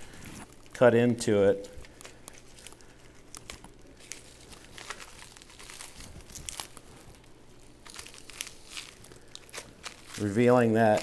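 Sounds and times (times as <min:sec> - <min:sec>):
fat crackling and tearing: 0:00.0 - 0:11.0
low steady hum: 0:00.0 - 0:11.0.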